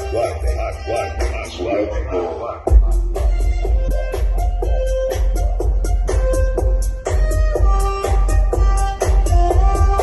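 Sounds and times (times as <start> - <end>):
heavy pulsing bass: 0.0 - 10.0.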